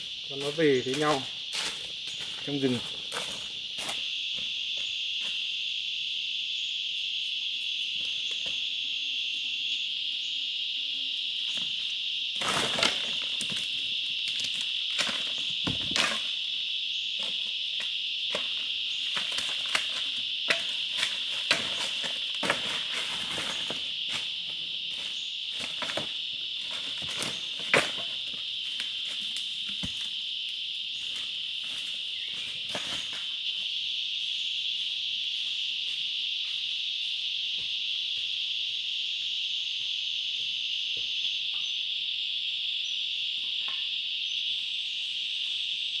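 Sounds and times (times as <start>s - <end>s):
shrill insect drone: 0.0s - 46.0s.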